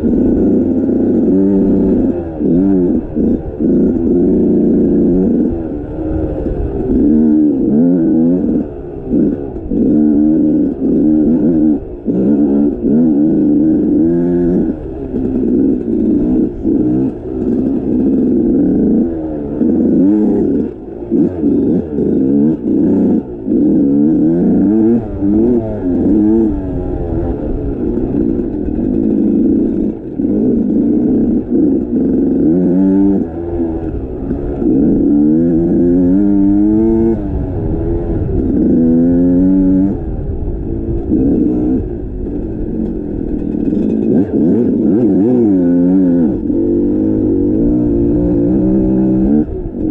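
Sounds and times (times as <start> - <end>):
low rumbling noise: 0.0 - 49.9
motorcycle engine revving: 0.0 - 49.9.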